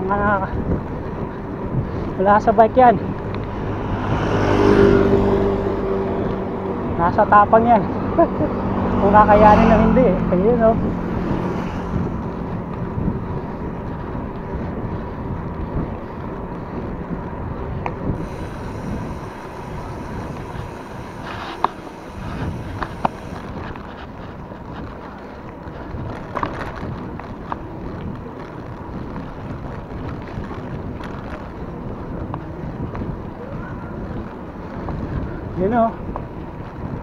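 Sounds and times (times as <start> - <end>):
road rumble: 0.0 - 37.0
wind buffeting microphone: 0.0 - 37.0.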